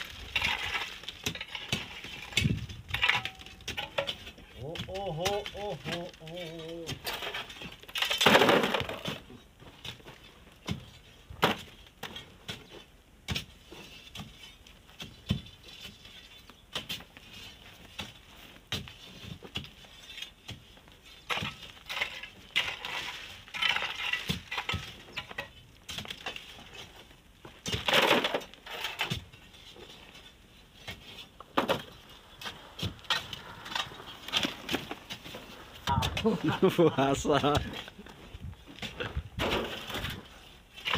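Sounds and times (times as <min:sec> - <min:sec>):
iron bar scraping sand and stones: 0:00.0 - 0:40.9.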